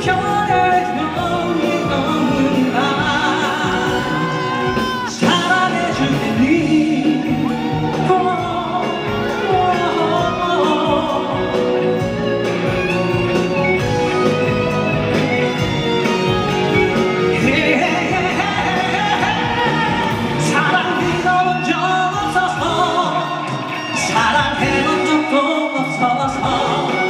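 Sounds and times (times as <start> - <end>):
live pop ballad by band: 0.0 - 27.0.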